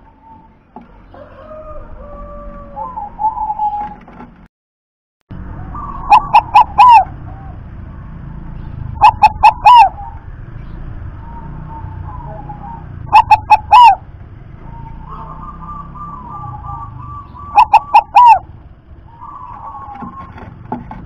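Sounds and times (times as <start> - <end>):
dove cooing: 0.0 - 4.0, 5.6 - 7.7, 8.9 - 10.2, 11.2 - 20.7.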